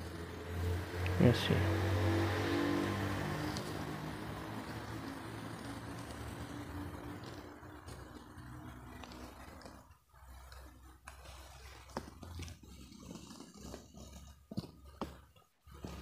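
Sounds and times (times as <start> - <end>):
pen scratching on paper: 2.1 - 16.0.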